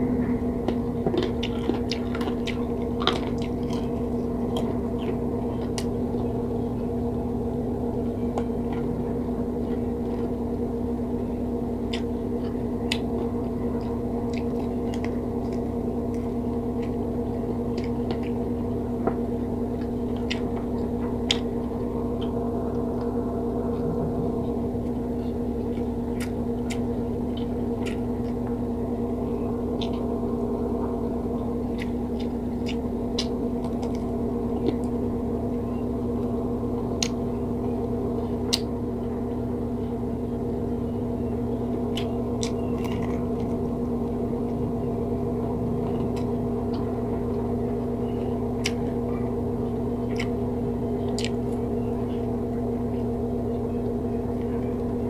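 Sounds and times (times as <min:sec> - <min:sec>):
crunchy chewing: 0:00.0 - 0:55.0
steady hum: 0:00.0 - 0:55.0.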